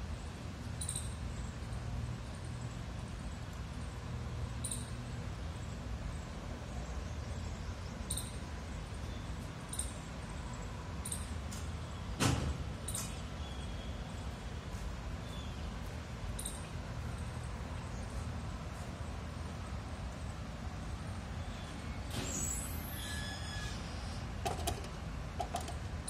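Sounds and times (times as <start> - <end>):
low outdoor background rumble: 0.0 - 26.0.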